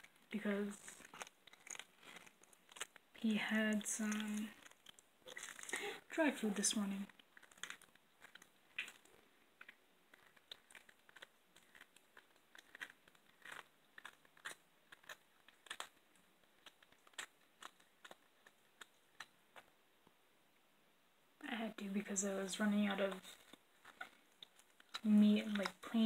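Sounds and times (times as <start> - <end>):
cat crunching chicken bone: 0.0 - 3.2, 3.8 - 6.2, 6.9 - 19.7, 23.2 - 26.0.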